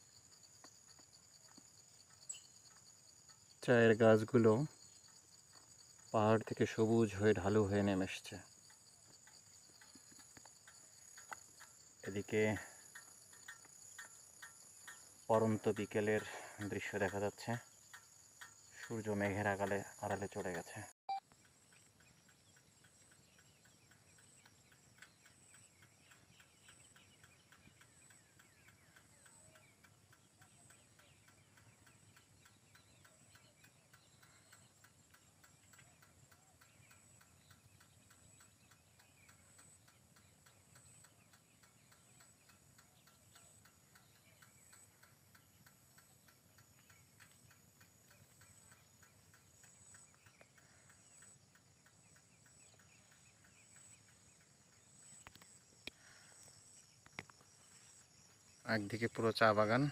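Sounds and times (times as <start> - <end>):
insects buzzing: 0.0 - 20.9, 21.6 - 59.9
faint bird chirps: 0.0 - 59.9
insect rapid ticking: 0.0 - 59.9.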